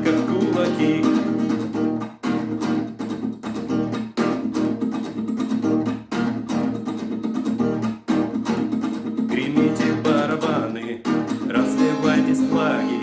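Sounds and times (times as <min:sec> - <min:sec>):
guitar strumming chords: 0:00.0 - 0:13.0.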